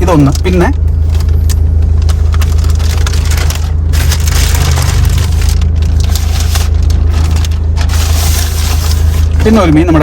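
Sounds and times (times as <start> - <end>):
car rumbling on the move: 0.0 - 10.0
crackling rustle: 1.1 - 9.7.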